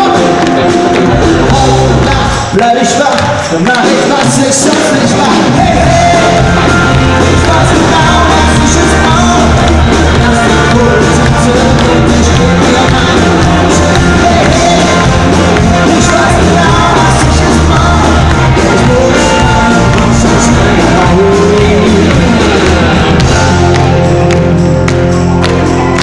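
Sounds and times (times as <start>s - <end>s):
man singing: 0.0s - 23.8s
bass and drums: 0.0s - 26.0s
live pop-rock band: 0.0s - 26.0s.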